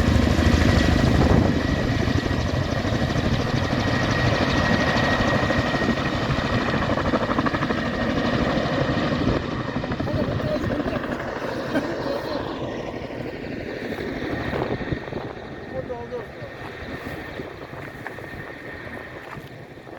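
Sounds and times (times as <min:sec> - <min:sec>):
helicopter rotor chopping: 0:00.0 - 0:19.9.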